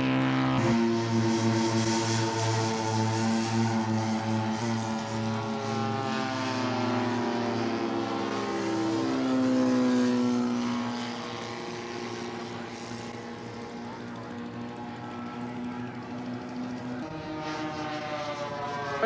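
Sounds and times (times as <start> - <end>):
model airplane engine flying past: 0.0 - 19.0.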